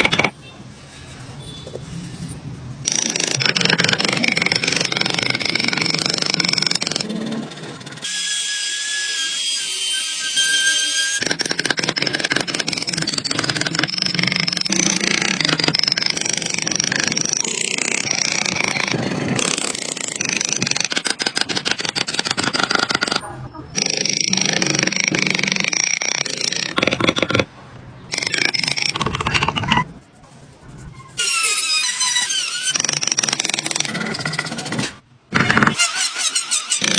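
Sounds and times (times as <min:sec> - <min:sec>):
woodworking tool noise: 0:02.8 - 0:23.2, 0:23.8 - 0:27.5, 0:28.1 - 0:29.9, 0:31.1 - 0:36.9.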